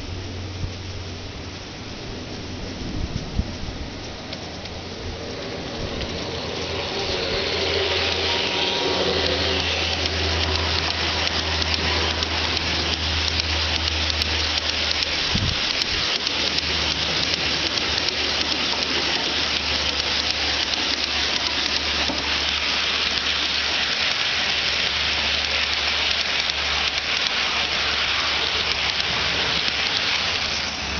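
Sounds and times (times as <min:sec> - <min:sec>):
low hum: 0:00.0 - 0:30.9
model train wheels clattering: 0:01.9 - 0:30.9.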